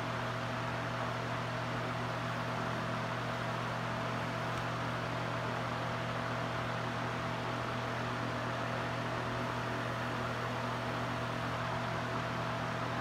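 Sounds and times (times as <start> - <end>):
ventilation system hum: 0.0 - 13.0.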